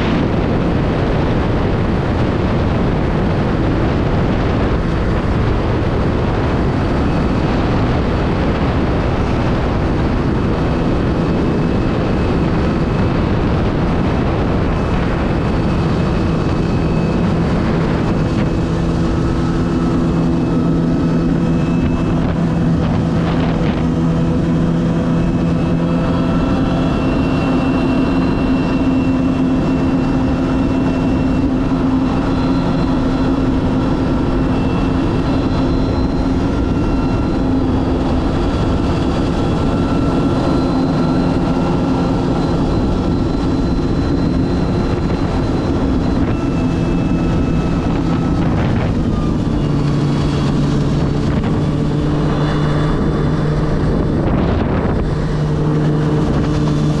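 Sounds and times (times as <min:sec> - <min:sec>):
jet ski engine running: 0:00.0 - 0:57.0
rushing water noise: 0:00.0 - 0:57.0.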